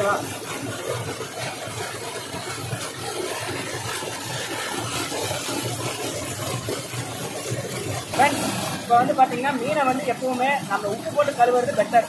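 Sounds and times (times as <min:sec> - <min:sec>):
waterfall splashing over rocks: 0:00.0 - 0:12.0.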